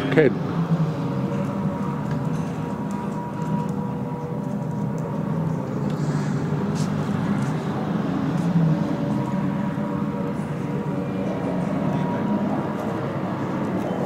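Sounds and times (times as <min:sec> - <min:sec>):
piston aircraft engines droning: 0:00.0 - 0:14.0.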